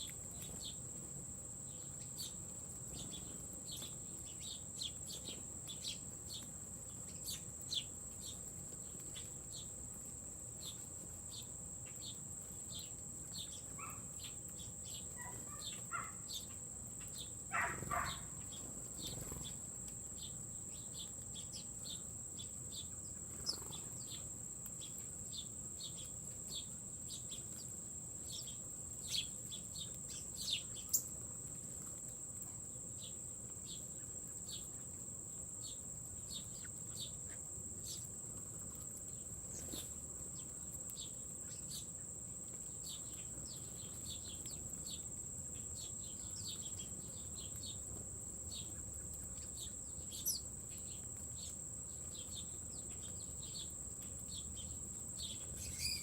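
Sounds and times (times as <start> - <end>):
insects trilling: 0.0 - 56.0
small birds chirping: 0.0 - 56.0.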